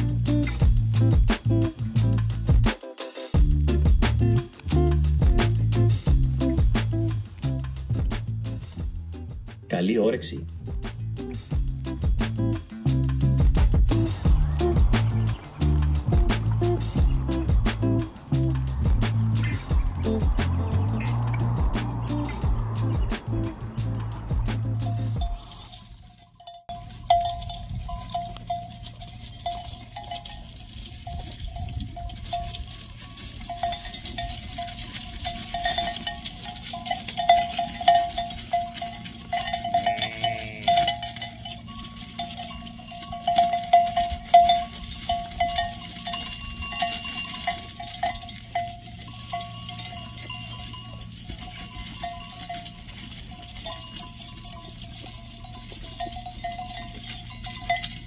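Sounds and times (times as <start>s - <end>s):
sheep bells clanking: 0.0s - 8.9s, 11.0s - 58.0s.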